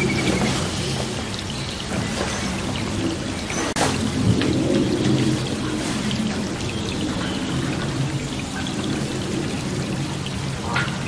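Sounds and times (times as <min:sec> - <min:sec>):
raindrop hits: 0:00.0 - 0:11.0
steady rain: 0:00.0 - 0:11.0.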